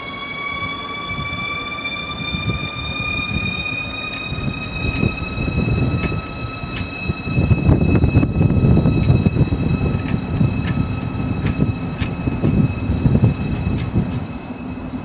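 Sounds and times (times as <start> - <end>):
wheels clicking: 0.0 - 14.4
electric train motors whining: 0.0 - 15.0
low rumble: 2.2 - 14.4.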